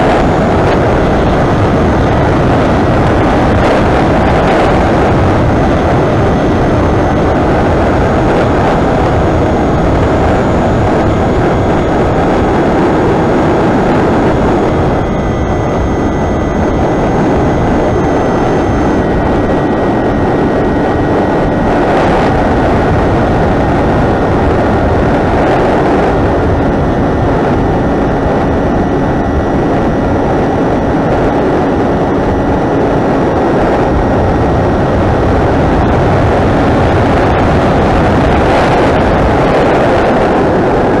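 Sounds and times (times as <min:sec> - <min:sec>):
heavy wind rush: 0:00.0 - 0:41.0
high electric motor whine: 0:00.0 - 0:41.0.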